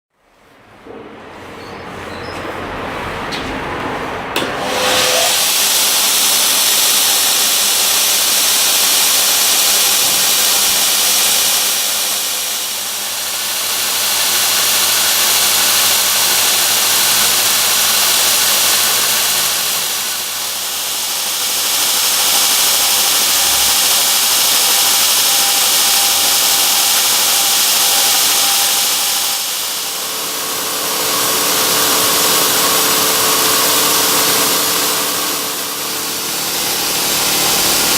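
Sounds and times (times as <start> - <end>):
electric grinder running: 4.4 - 37.9.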